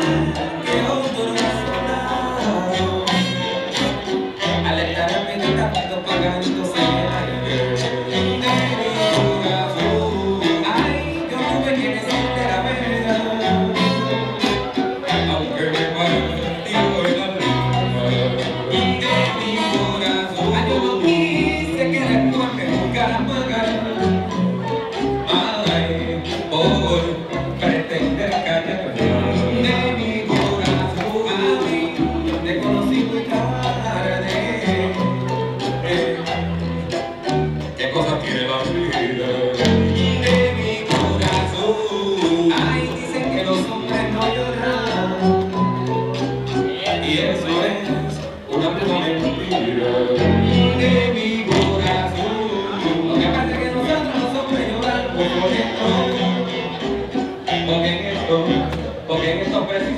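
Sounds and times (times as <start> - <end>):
bass line: 0.0 - 59.9
hand percussion: 0.0 - 59.9
person singing: 0.0 - 59.9
salsa music: 0.0 - 59.9.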